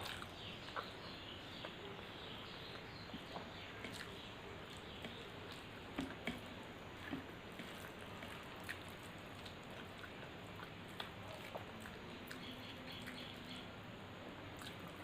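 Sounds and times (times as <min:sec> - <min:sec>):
chewing food clicks and squelches: 0:00.0 - 0:13.6, 0:14.5 - 0:15.0
steady low hiss: 0:00.0 - 0:15.0.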